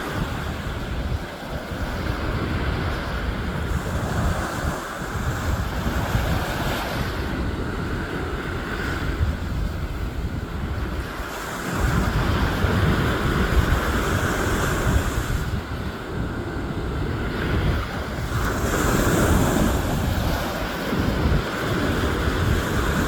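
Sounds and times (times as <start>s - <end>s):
sea waves washing ashore: 0.0s - 23.0s
wind buffeting microphone: 0.0s - 23.0s.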